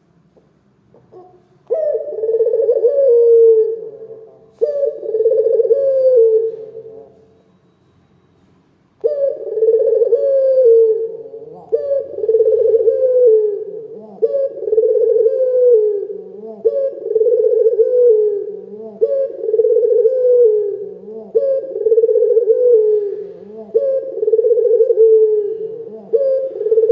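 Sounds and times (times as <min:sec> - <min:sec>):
dove cooing: 0:00.9 - 0:07.4, 0:09.0 - 0:26.9.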